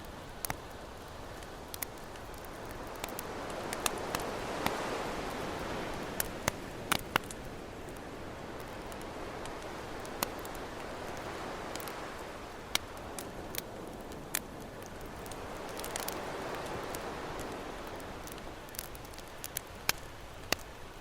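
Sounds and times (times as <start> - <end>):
campfire crackling and popping: 0.0 - 21.0
ocean waves: 0.4 - 20.8.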